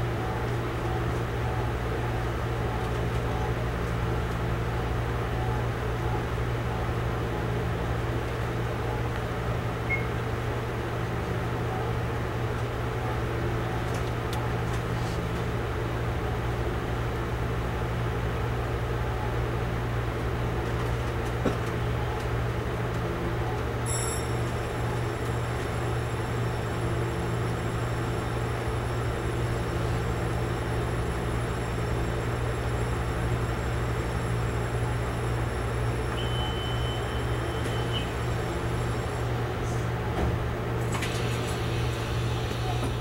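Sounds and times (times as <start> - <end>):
electric train hum and rumble: 0.0 - 43.0.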